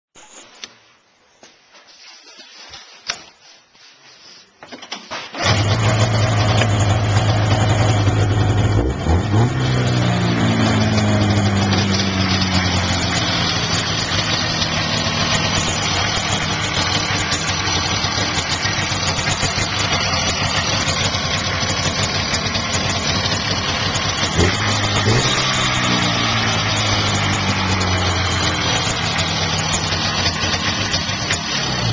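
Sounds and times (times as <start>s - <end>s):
snowmobile engine revving and idling: 5.4s - 31.9s.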